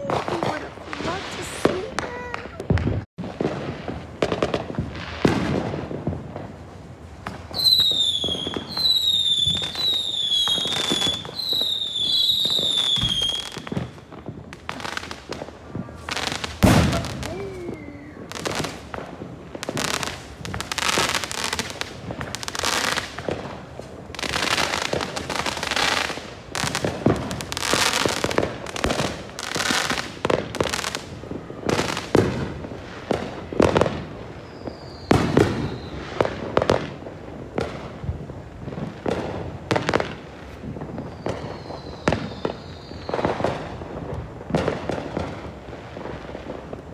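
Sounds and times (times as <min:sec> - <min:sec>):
fireworks bangs and crackling: 0:00.0 - 0:46.9
whistling fireworks: 0:00.0 - 0:46.9.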